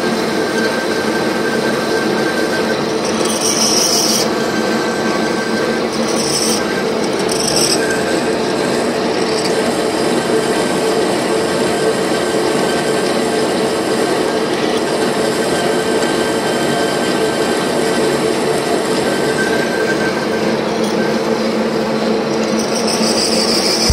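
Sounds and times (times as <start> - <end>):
metal lathe cutting: 0.0 - 23.9.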